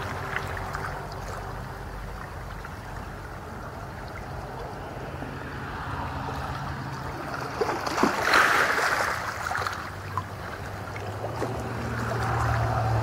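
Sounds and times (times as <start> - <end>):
small water splashes: 0.0 - 13.0
water rushing surge: 0.0 - 13.0.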